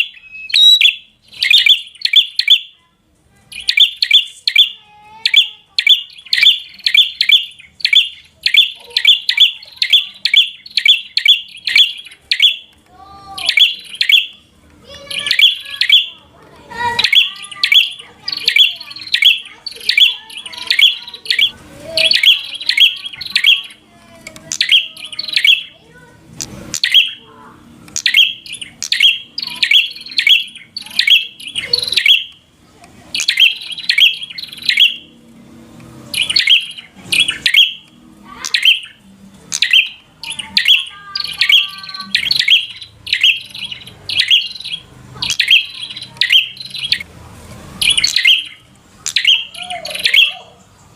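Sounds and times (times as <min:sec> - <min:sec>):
bird singing sharp chirps: 0:00.0 - 0:02.8, 0:03.5 - 0:12.7, 0:13.4 - 0:16.2, 0:16.8 - 0:23.9, 0:24.5 - 0:25.8, 0:26.4 - 0:27.2, 0:28.0 - 0:32.4, 0:33.2 - 0:35.2, 0:36.0 - 0:47.1, 0:47.7 - 0:50.5.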